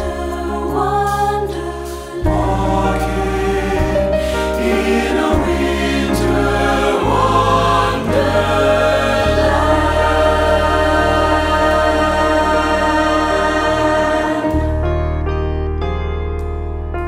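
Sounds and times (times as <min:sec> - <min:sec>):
choir singing jazz harmonies: 0:00.0 - 0:15.2
piano accompaniment: 0:00.0 - 0:17.0.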